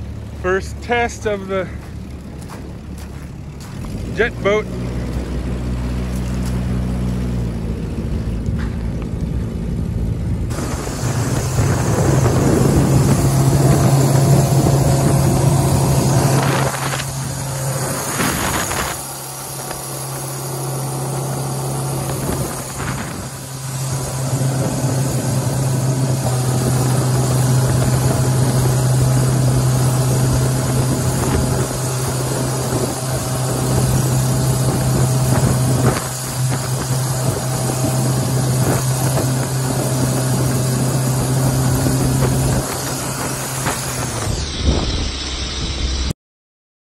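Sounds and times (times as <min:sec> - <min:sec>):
water rushing: 0:00.0 - 0:45.6
boat engine droning: 0:00.0 - 0:46.1
wind: 0:00.0 - 0:46.2.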